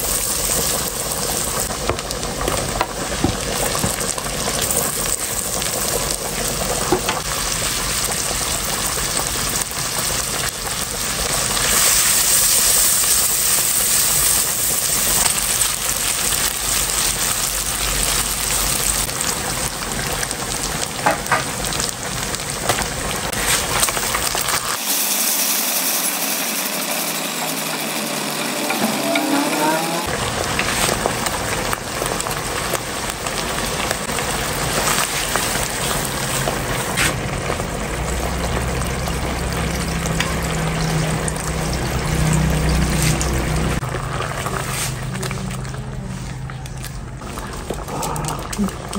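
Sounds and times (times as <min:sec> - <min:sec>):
bacon and onion sizzling: 0:00.0 - 0:48.9.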